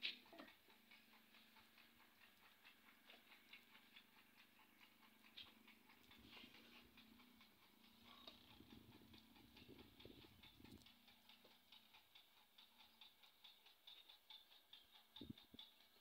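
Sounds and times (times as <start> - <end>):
faint rapid ticking: 0.0 - 16.0.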